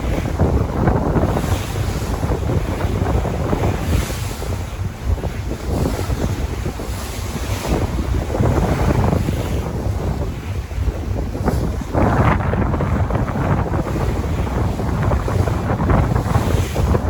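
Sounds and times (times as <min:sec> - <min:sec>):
sea waves washing in: 0:00.0 - 0:17.0
wind noise on microphone: 0:00.0 - 0:17.0.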